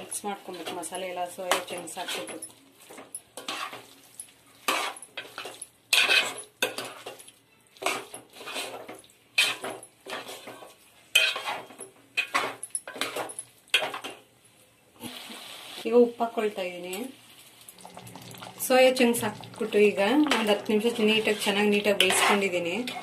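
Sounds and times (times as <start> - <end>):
metal spoon scraping a pot: 0.0 - 14.2, 18.0 - 23.0.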